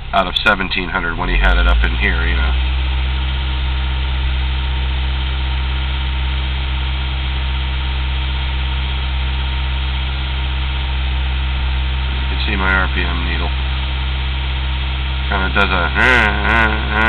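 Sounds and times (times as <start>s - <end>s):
engine running: 0.0s - 17.0s
exhaust pop: 0.0s - 17.0s.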